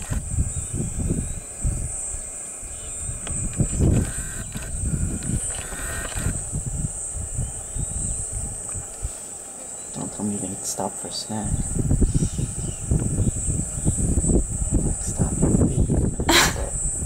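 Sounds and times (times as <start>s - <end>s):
wind buffeting microphone: 0.0s - 9.2s, 11.3s - 17.0s
high-pitched insect buzz: 0.0s - 17.0s.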